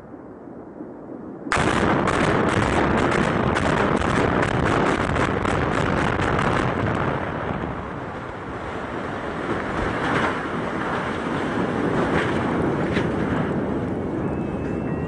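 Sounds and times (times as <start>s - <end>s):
demolition charges cracking: 1.6s - 14.5s
rumble of building collapsing: 1.6s - 15.0s.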